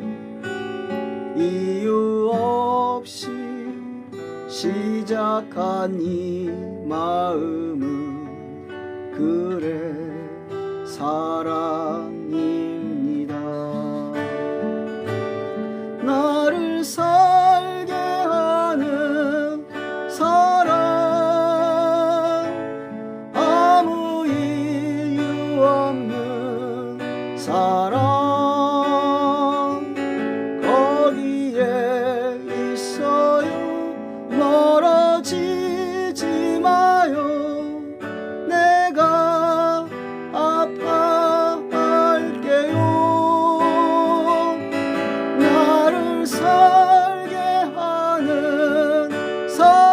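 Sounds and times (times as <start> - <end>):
acoustic guitar ballad: 0.0 - 49.9
wavering melody with vibrato: 0.0 - 49.9.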